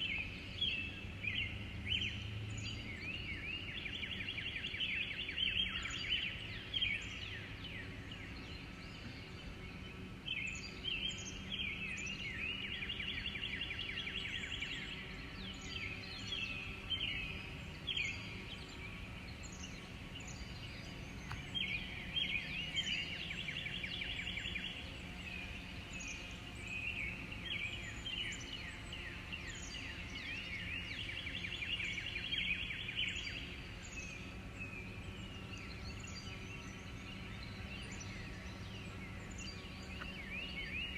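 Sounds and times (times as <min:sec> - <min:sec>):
birds singing trilled chirps: 0:00.0 - 0:40.9
steady low hum: 0:00.0 - 0:40.9.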